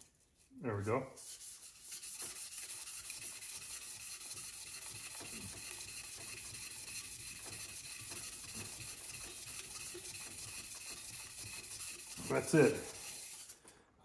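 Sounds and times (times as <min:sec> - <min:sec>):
sandpaper rubbing hiss: 0:01.2 - 0:13.6.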